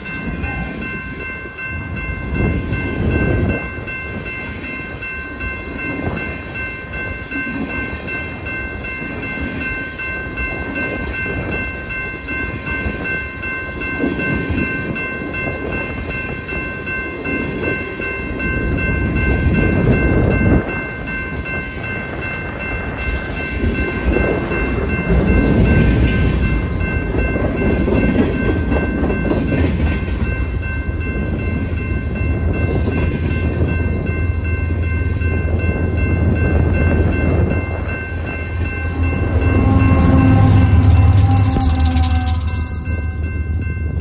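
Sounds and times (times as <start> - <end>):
diesel locomotive engine hum: 0.0 - 44.0
train wheels clattering on rails: 0.0 - 44.0.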